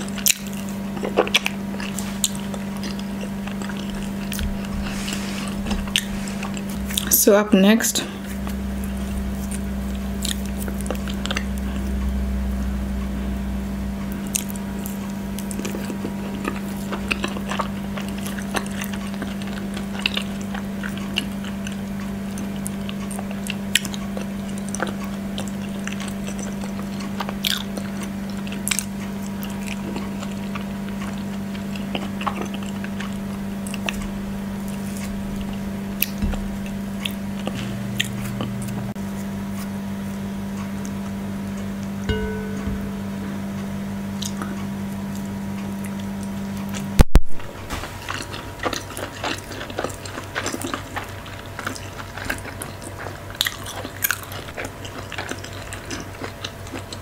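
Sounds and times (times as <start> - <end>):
chewing and wet mouth sounds: 0.0 - 7.2, 8.0 - 12.1, 14.1 - 41.1, 48.0 - 57.0
steady low hum: 0.0 - 57.0.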